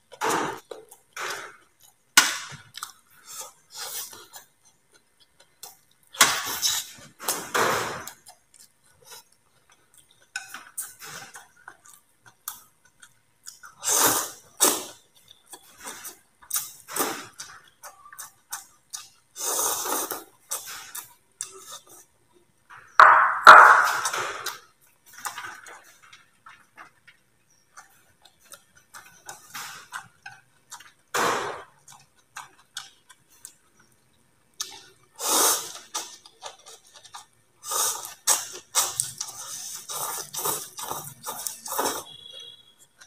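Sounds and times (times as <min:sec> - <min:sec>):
person chewing and slurping: 0:00.1 - 0:22.2, 0:27.5 - 0:34.0, 0:34.6 - 0:43.0.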